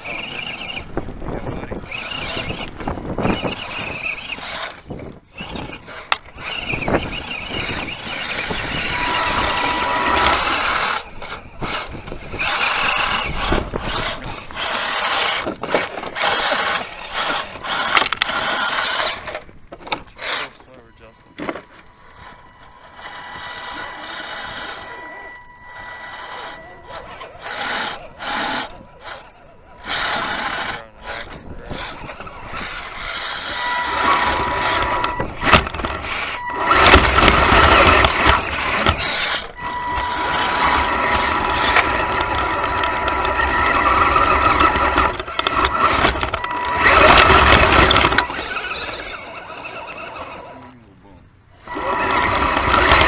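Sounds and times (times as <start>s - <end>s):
tyres scrabbling on rocks: 0.0s - 20.7s, 26.0s - 50.8s, 51.8s - 53.0s
electric motors and gears whining: 0.0s - 53.0s
rocks scraping and clattering: 1.5s - 24.7s, 29.8s - 50.8s.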